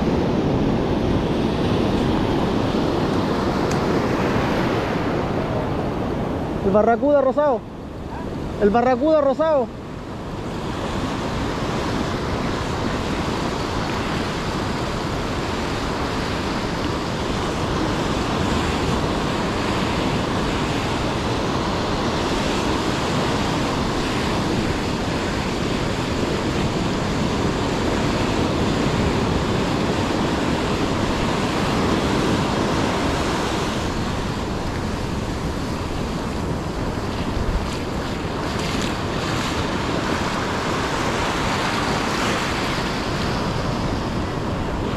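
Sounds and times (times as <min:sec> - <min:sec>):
ocean surf breaking: 0:00.0 - 0:44.9
wind on microphone: 0:00.0 - 0:44.9.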